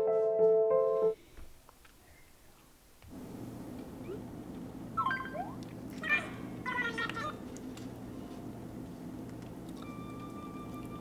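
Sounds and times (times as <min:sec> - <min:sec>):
low background hum: 0:01.1 - 0:11.0.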